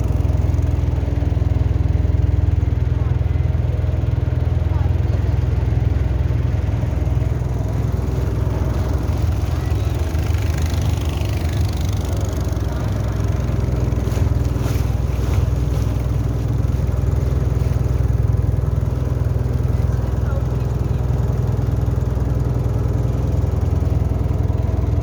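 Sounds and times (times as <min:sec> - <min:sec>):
motorboat engine droning: 0:00.0 - 0:25.0.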